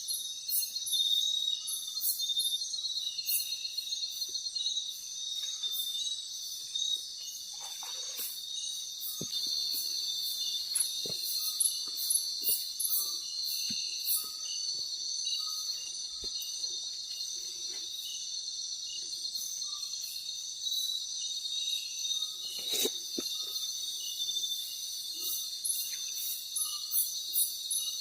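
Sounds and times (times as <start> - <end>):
insect chirps: 0.0 - 28.0
insects buzzing: 0.0 - 28.0.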